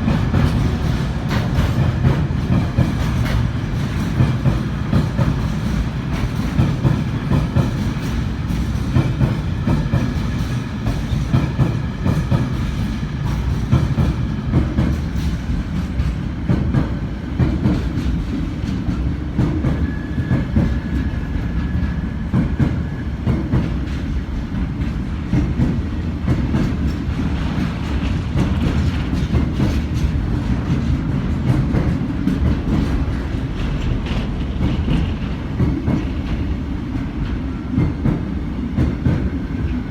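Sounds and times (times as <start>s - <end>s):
train wheels clattering over rail joints: 0.0s - 39.8s
low rumble of train: 0.0s - 39.9s.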